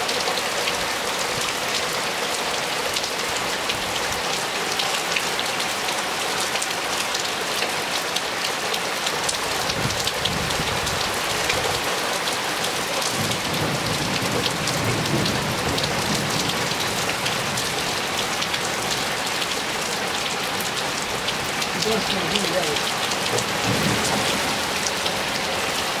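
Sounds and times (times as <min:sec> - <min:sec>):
hard rain on paving: 0:00.0 - 0:26.0.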